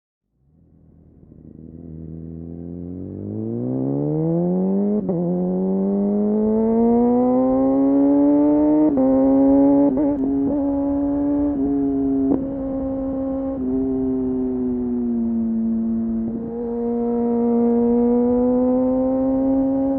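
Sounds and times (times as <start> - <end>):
motorcycle engine accelerating: 0.3 - 19.9.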